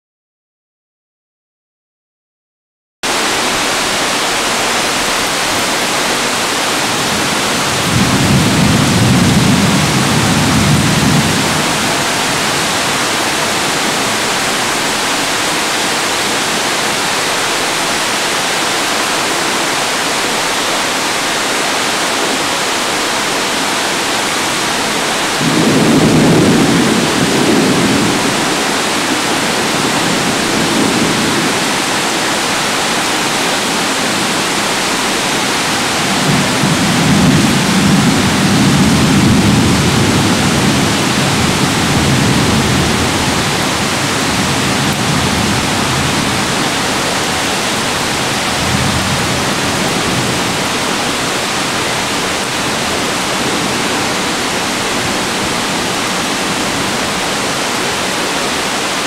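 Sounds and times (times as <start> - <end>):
thunder rumbling: 3.1 - 18.4, 20.2 - 58.9
heavy rain hissing: 3.1 - 59.0.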